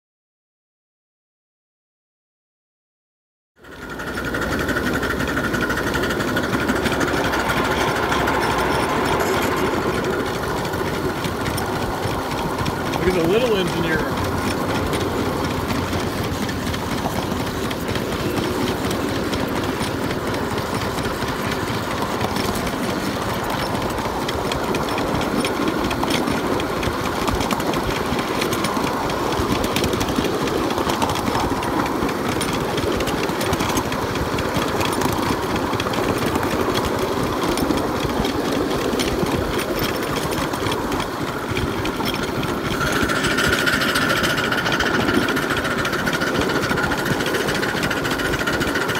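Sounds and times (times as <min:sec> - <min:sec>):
steam locomotive exhaust chuffing: 0:03.6 - 0:48.9
wheels rattling on rails: 0:03.6 - 0:48.9.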